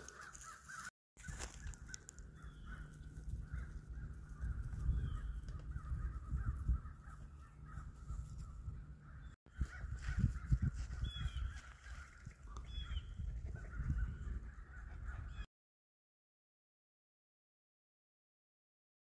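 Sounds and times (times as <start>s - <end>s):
crows cawing in the distance: 0.0s - 15.4s.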